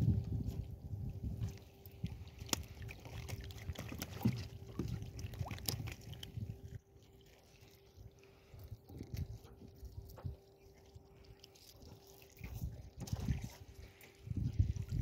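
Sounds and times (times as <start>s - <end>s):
faint steady hum: 0.0s - 15.0s
water splashing and sloshing: 0.0s - 15.0s.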